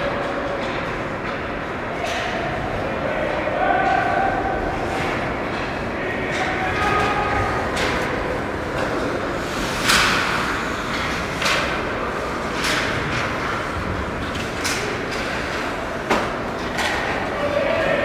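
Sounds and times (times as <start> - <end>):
hockey sticks hitting puck: 3.5 - 18.0.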